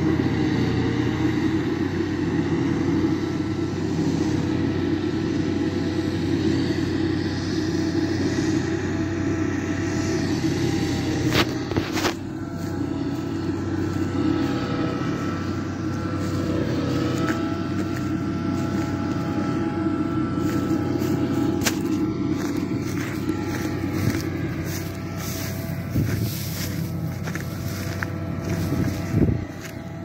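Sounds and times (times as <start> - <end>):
distant tractor and harvester drone: 0.0 - 30.0
faint whine: 1.0 - 30.0.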